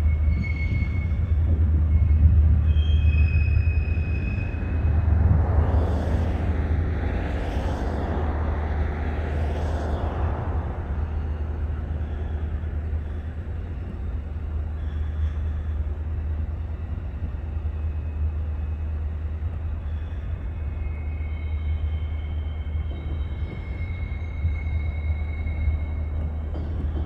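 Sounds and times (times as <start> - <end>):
distant turboprop engines rumbling: 0.0 - 27.0.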